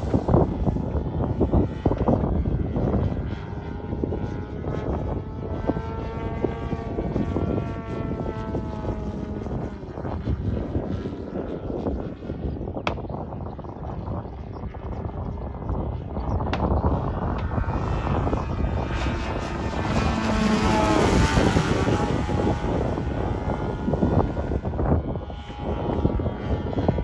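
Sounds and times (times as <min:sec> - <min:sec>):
model plane engine buzzing: 0:00.0 - 0:27.0.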